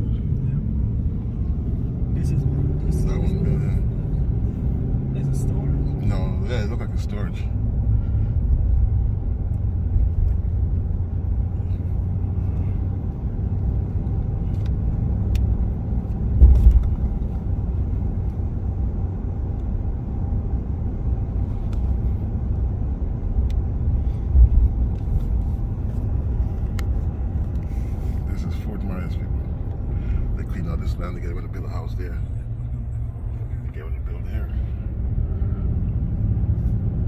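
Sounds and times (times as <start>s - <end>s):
car engine rumble: 0.0s - 37.0s
road noise: 0.0s - 37.0s.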